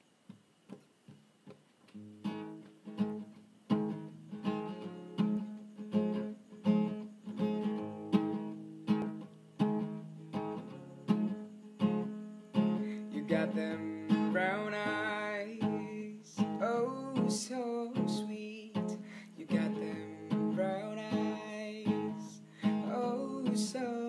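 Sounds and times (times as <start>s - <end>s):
acoustic guitar strumming: 1.5s - 24.0s.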